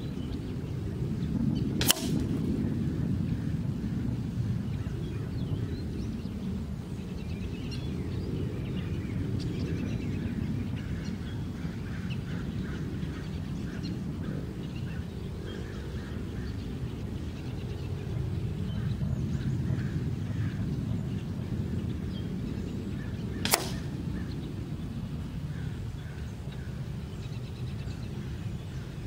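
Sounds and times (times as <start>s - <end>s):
birds calling: 0.0s - 29.0s
wind rumbling on microphone: 0.0s - 29.0s.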